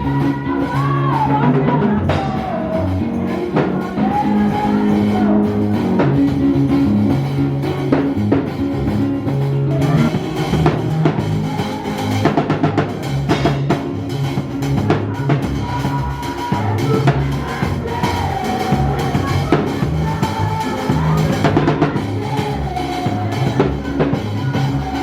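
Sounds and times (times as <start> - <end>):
bass line: 0.0 - 25.0
drum kit beat: 0.0 - 25.0
sustained guitar or keyboard notes: 0.0 - 25.0.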